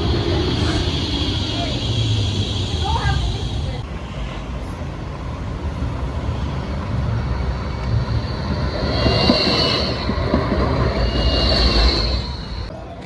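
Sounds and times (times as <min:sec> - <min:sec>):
tram rumbling: 0:00.0 - 0:13.0
tram wheels squealing on rails: 0:00.0 - 0:13.0.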